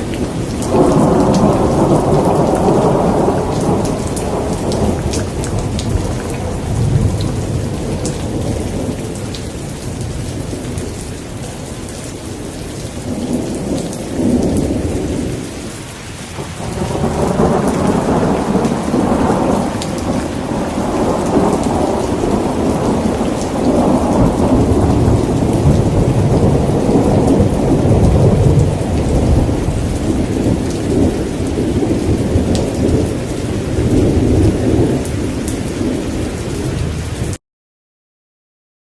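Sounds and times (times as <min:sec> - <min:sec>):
rolling thunder: 0:00.0 - 0:10.9, 0:16.4 - 0:37.4
steady rain: 0:00.0 - 0:37.4.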